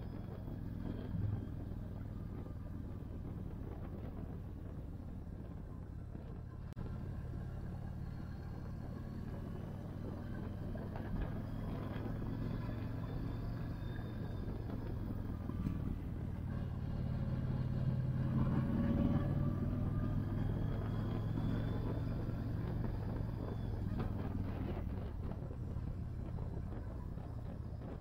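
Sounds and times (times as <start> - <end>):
motorcycle engine running: 0.0 - 28.0
road noise: 0.0 - 28.0.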